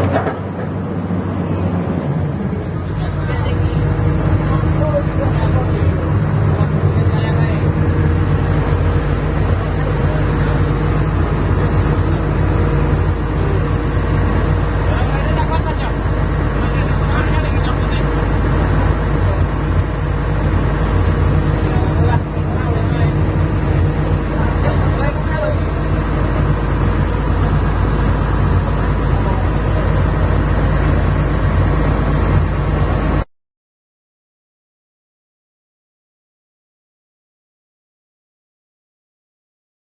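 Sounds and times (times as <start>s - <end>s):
excavator diesel engine droning: 0.0s - 33.3s.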